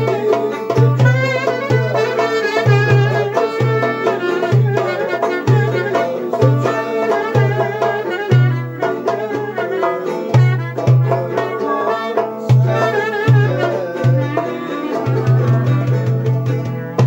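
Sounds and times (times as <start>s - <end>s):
clarinet melody: 0.0s - 17.0s
lute playing: 0.0s - 17.0s.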